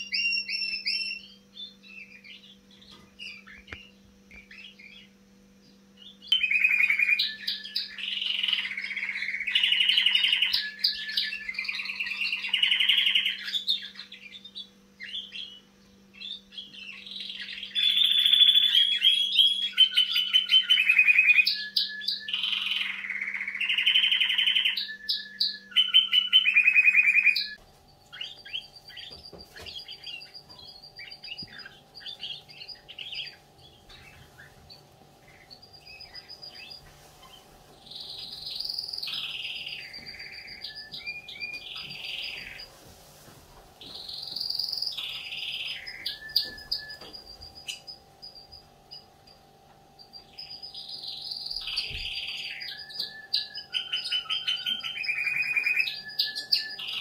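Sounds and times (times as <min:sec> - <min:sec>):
faint chirps: 0:00.0 - 0:42.8, 0:43.8 - 0:57.0
canary singing trills: 0:00.0 - 0:42.9, 0:43.7 - 0:57.0.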